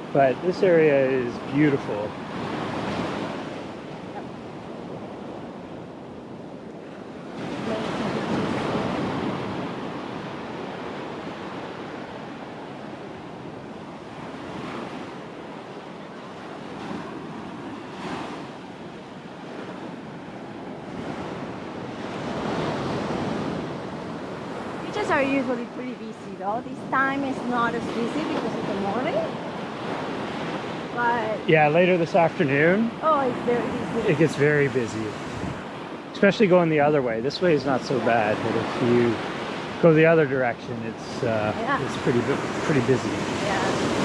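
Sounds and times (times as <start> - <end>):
ocean surf breaking on beach: 0.0 - 44.0.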